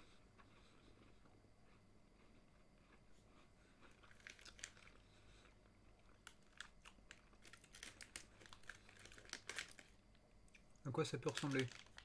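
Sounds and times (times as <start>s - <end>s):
cookie crunching while chewed: 0.0s - 12.0s.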